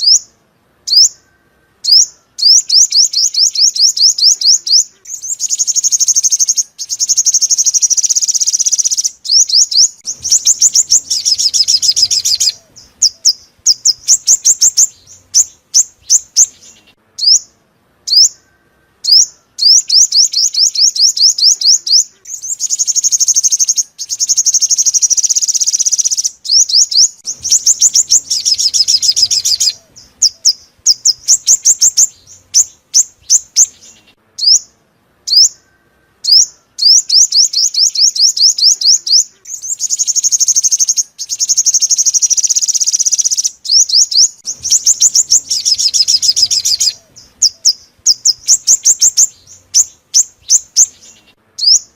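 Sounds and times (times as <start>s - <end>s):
bird trilling and chirping: 0.0s - 0.3s, 0.9s - 51.9s.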